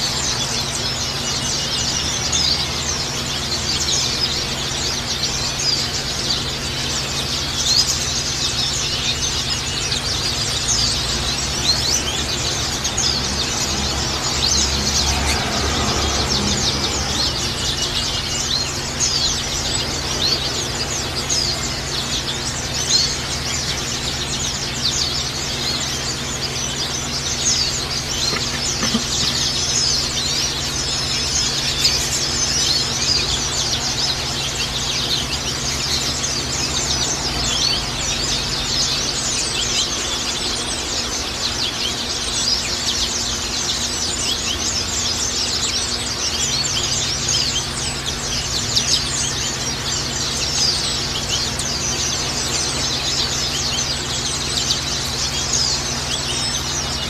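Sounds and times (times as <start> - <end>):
birds chattering and twittering: 0.0 - 57.0
steady low hum: 0.0 - 57.0.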